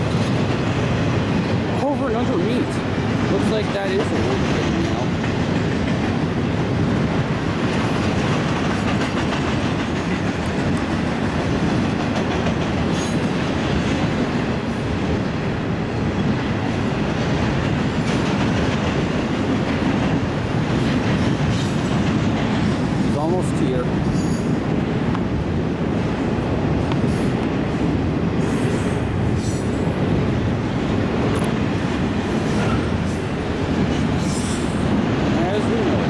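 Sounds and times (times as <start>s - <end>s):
freight train rumbling past: 0.0s - 36.0s
steel wheels clattering on rails: 0.0s - 36.0s.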